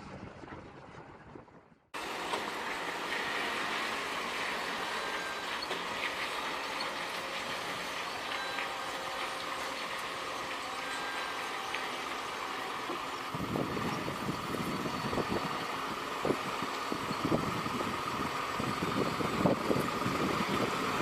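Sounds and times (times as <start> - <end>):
heavy machinery running: 2.0 - 21.0.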